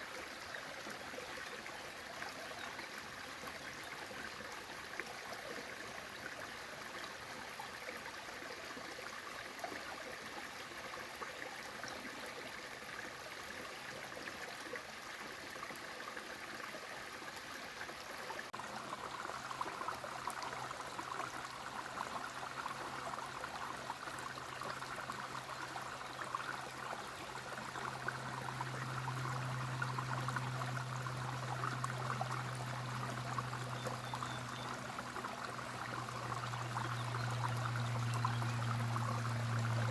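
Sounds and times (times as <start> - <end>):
brook water rushing and splashing: 0.0 - 39.9.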